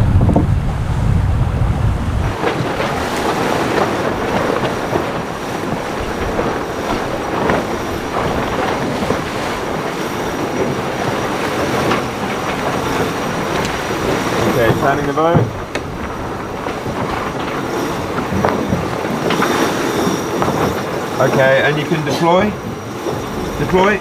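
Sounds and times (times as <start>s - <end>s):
low wind rumble: 0.0s - 24.0s
thin high whine: 0.0s - 24.0s
water rushing past hull: 0.0s - 24.0s.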